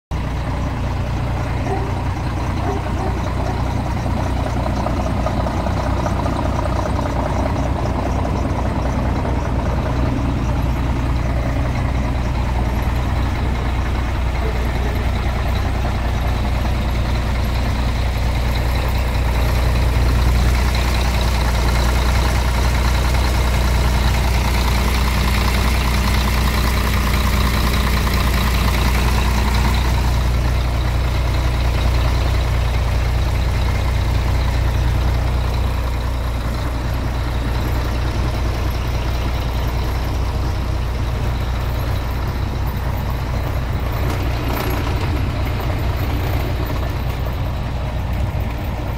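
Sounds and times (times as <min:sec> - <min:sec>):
truck diesel engine idling: 0:00.0 - 0:48.9.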